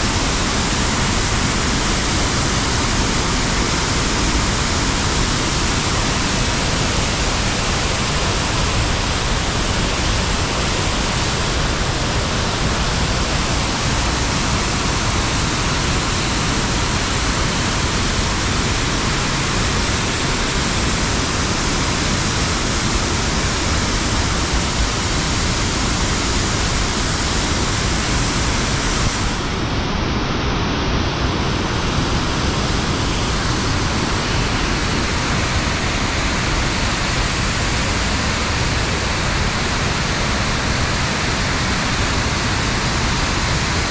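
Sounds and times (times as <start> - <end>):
heavy rain: 0.0 - 43.9
water cascading over rocks: 0.0 - 43.9.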